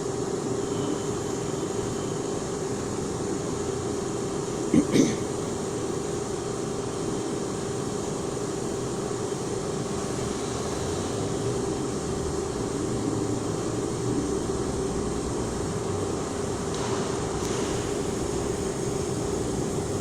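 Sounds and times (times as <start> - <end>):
lathe machining hum: 0.0 - 4.7, 5.3 - 20.0.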